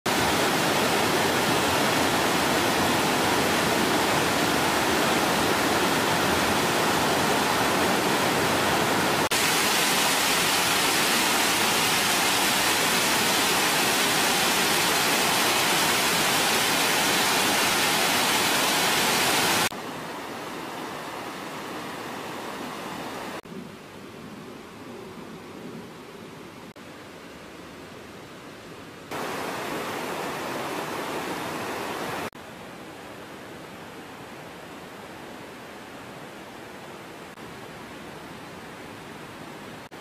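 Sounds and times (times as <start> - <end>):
stream rushing over rocks: 0.1 - 23.4, 29.1 - 40.0.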